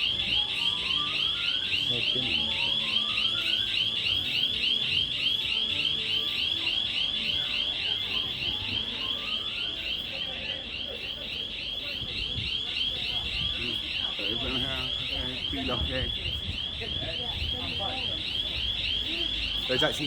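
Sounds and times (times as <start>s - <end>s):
warbling electronic alarm: 0.0s - 20.0s.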